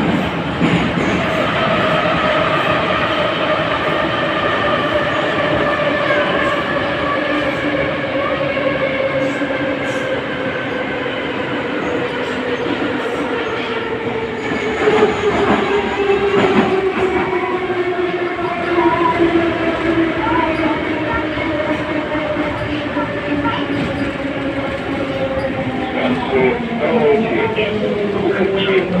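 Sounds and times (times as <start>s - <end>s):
train wheel rumble and rail rattle: 0.0s - 29.0s.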